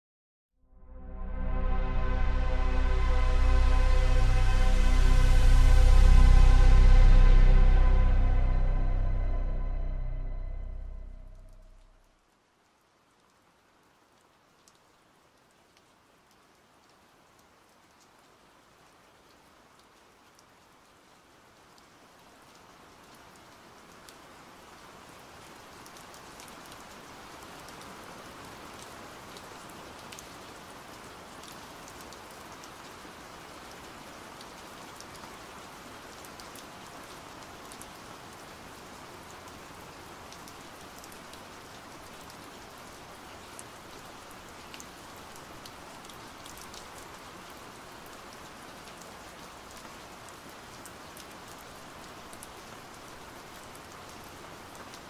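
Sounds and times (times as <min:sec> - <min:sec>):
steady rain falling: 0:01.0 - 0:55.0.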